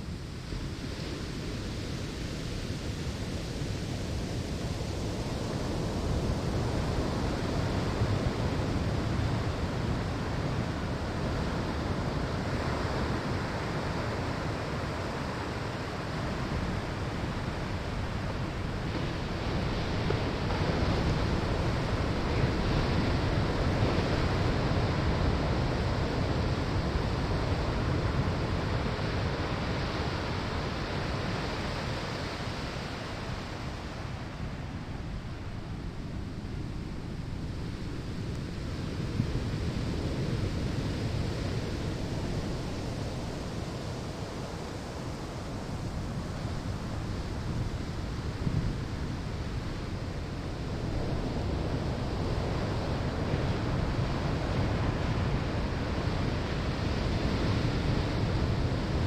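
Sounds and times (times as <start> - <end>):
ocean waves breaking on sand: 0.0 - 59.0.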